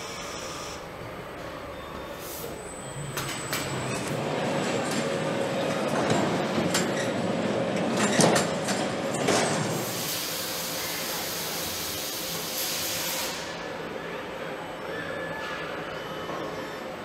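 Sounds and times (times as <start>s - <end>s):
factory machinery running: 0.0s - 17.0s.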